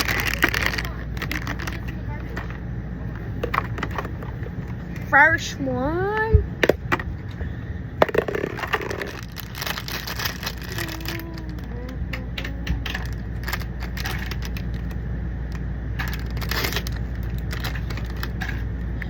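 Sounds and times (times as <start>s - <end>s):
plastic packaging crinkling: 0.0s - 5.0s, 8.0s - 19.0s
low hum: 0.0s - 19.0s.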